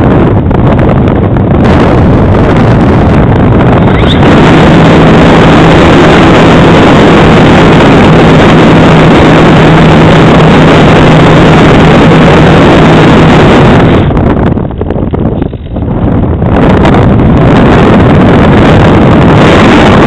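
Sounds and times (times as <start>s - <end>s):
steady low hum: 0.0s - 20.0s
wind rushing on microphone: 0.0s - 20.0s.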